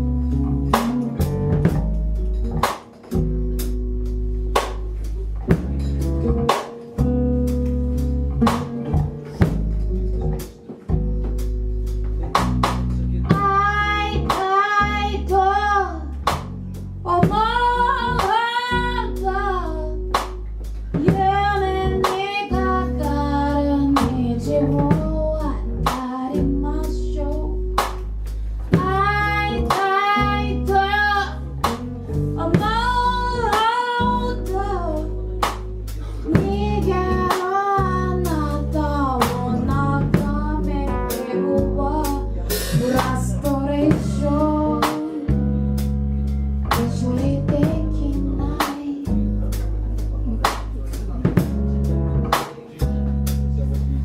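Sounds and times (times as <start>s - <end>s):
song with drums and bass: 0.0s - 54.0s.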